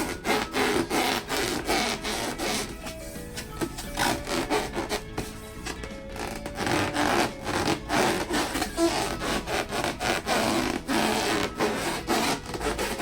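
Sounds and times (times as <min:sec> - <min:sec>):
balloons being rubbed: 0:00.0 - 0:13.0.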